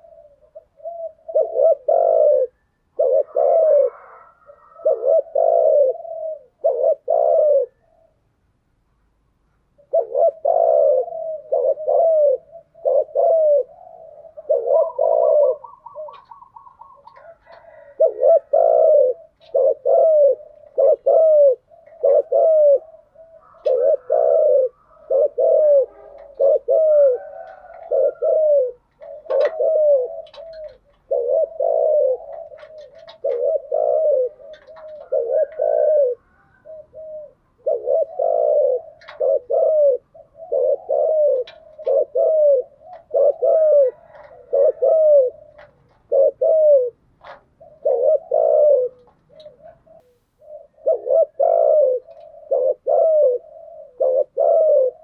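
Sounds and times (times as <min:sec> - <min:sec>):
doves cooing: 0:00.0 - 0:08.4, 0:09.6 - 0:55.0.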